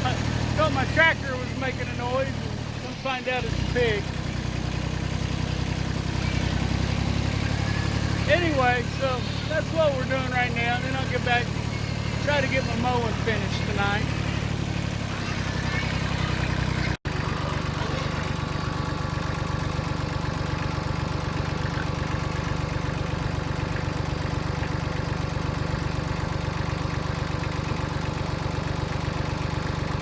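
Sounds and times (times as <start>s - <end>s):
tractor engine droning: 0.0s - 30.0s.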